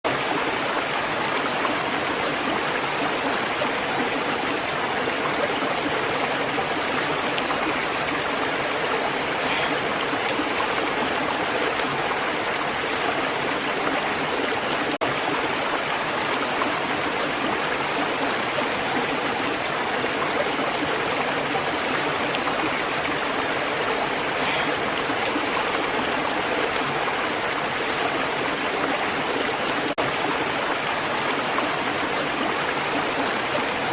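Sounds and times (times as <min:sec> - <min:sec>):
running water: 0:00.1 - 0:33.9.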